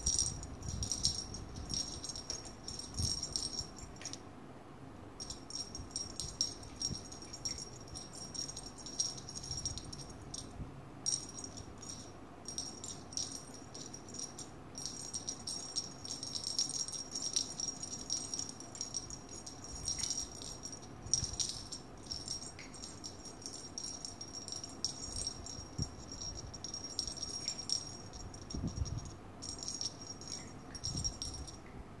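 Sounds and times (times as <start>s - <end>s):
small bell jingling: 0.0s - 4.2s, 5.2s - 31.6s.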